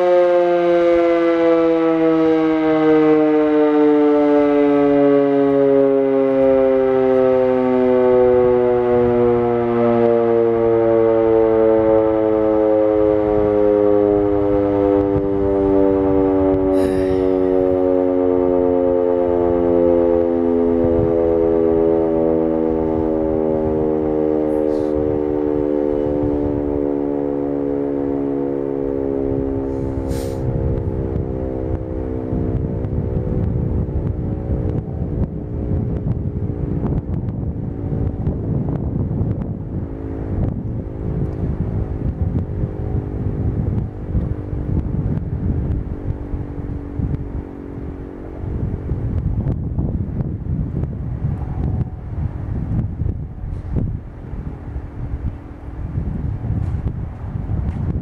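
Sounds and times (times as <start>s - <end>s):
warning siren multi-note tone: 0.0s - 58.0s
wind buffeting microphone: 0.0s - 58.0s.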